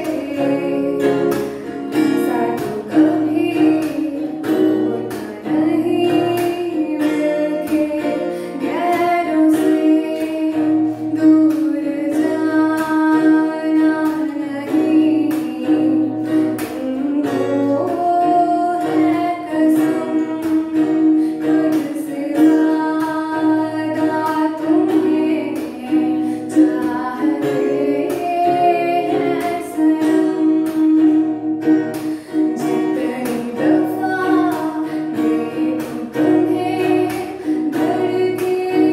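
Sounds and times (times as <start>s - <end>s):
girl singing: 0.0s - 38.9s
plucked strings: 0.0s - 38.9s.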